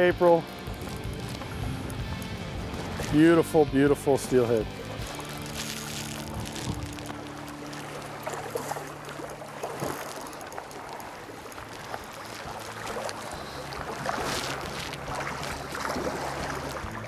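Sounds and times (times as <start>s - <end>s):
river water rushing: 0.0s - 17.0s
fish thrashing and splashing: 0.6s - 3.4s, 4.2s - 17.0s.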